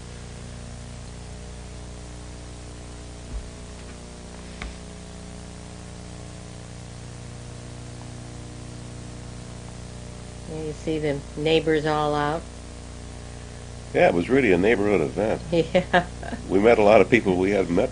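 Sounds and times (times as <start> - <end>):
low electrical hum: 0.0 - 17.9
steady hiss: 0.0 - 17.9.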